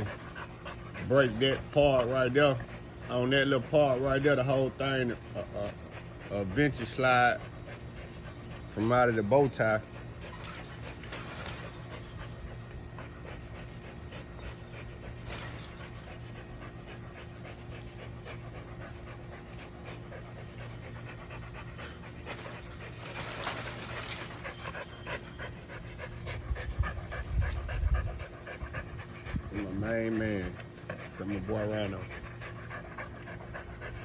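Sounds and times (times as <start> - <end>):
dog panting: 0.0 - 34.0
low hum: 0.0 - 34.0.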